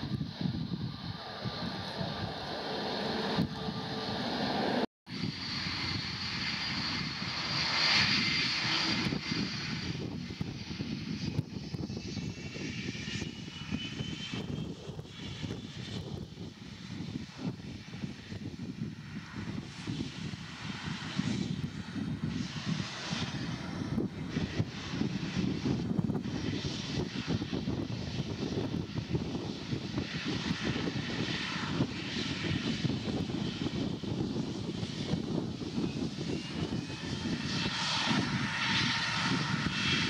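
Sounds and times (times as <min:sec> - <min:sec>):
airplane engines passing: 0:00.0 - 0:40.0
high engine whine: 0:00.0 - 0:40.0.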